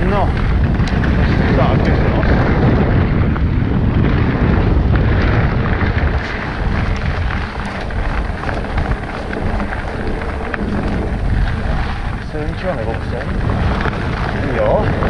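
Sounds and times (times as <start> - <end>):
bike clicks and rattles: 0.0 - 15.0
bike tyres rolling on dirt trail: 0.0 - 15.0
wind buffeting microphone: 0.0 - 15.0.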